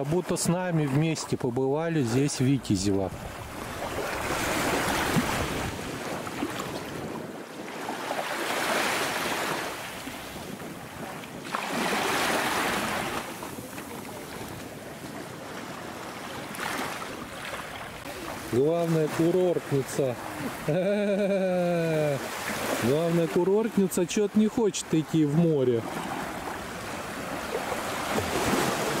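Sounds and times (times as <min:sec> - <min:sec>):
waves washing on sandy beach: 0:00.0 - 0:29.0.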